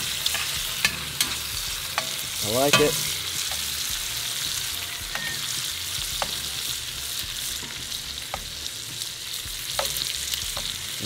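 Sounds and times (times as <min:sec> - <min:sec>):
bacon sizzling in a skillet: 0:00.0 - 0:11.0
metal tongs turning food: 0:00.0 - 0:11.0
sausages simmering in a pan: 0:00.0 - 0:11.0.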